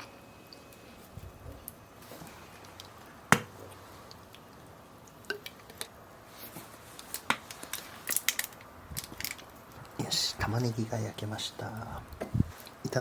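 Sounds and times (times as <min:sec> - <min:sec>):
fire crackling: 0:00.5 - 0:13.0.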